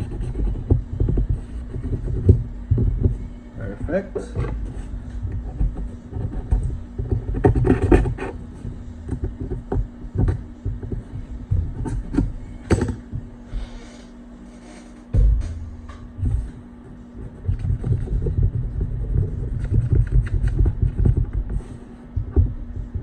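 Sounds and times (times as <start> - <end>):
scratching and rubbing on tablet frame: 0.0 - 3.3, 4.2 - 13.0, 14.4 - 15.1, 16.2 - 23.0
steady low hum: 0.0 - 23.0.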